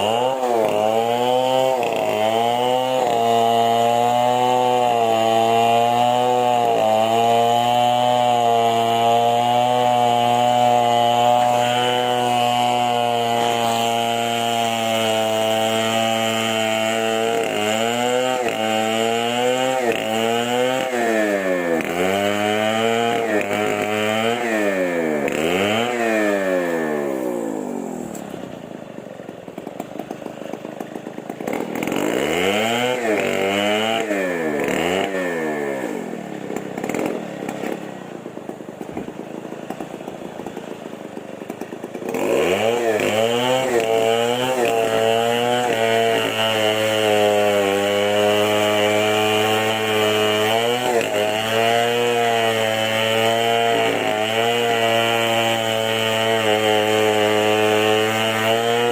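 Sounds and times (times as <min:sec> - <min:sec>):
chainsaw engine revving: 0:00.0 - 0:58.9.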